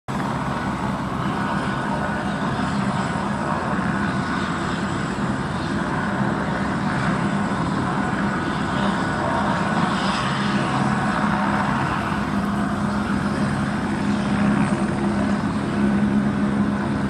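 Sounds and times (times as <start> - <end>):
helicopter running on ground: 0.1 - 17.0.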